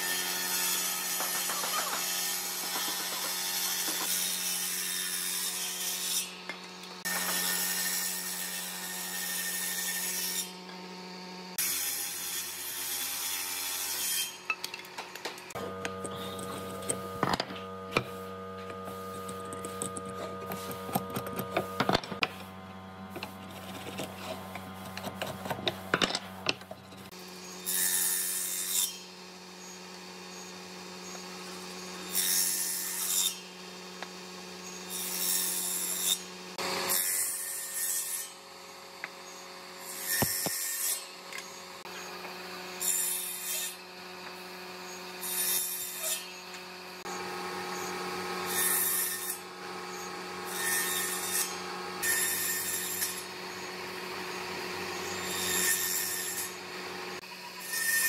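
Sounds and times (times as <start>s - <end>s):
table saw motor humming: 0.0s - 37.4s, 38.2s - 58.0s
saw cutting boards: 0.0s - 58.0s.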